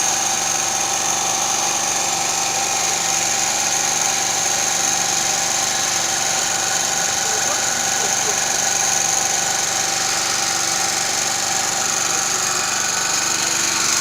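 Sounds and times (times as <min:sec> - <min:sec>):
small generator engine running: 0:00.0 - 0:14.0.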